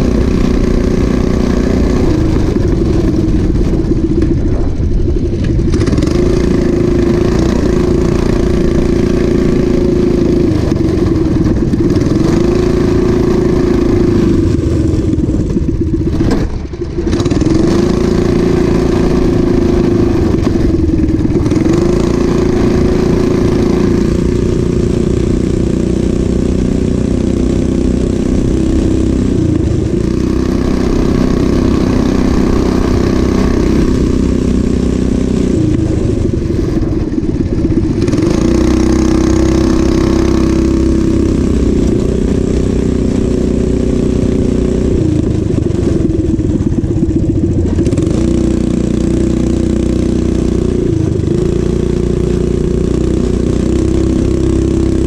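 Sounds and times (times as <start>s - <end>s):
small engine running hard: 0.0s - 55.0s.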